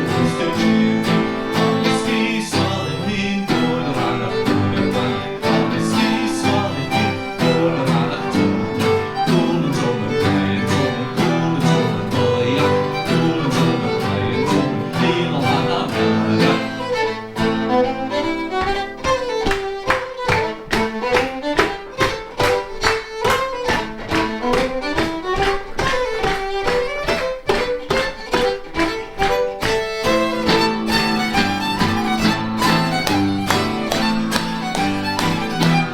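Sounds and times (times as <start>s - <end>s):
crisp even beat: 0.0s - 35.9s
electric guitar accompaniment: 0.0s - 35.9s
fiddle dance tune: 0.0s - 35.9s.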